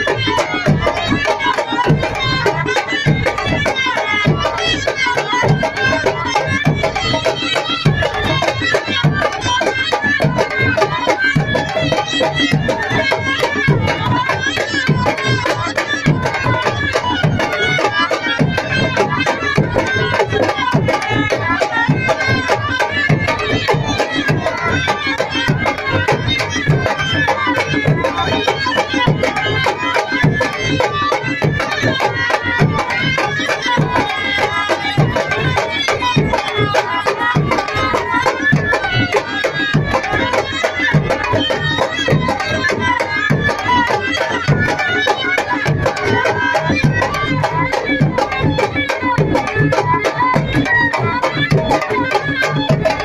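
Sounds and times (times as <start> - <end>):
barrel drum beating fast rhythm: 0.0 - 53.0.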